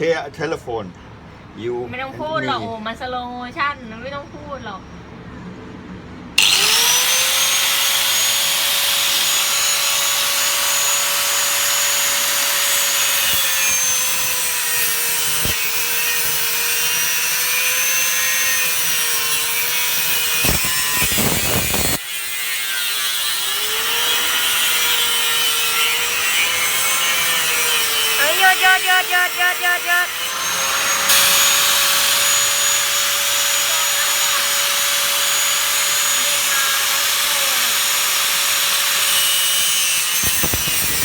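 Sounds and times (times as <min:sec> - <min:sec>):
angle grinder cutting phone: 0:06.4 - 0:41.0.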